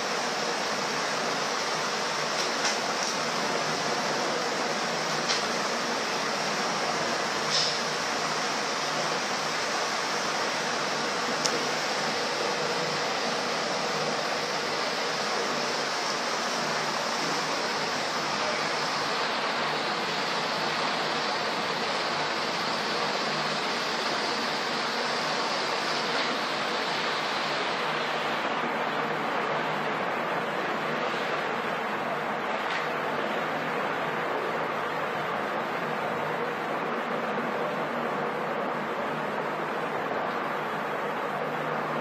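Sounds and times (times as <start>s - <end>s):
steady rushing noise: 0.0s - 42.0s.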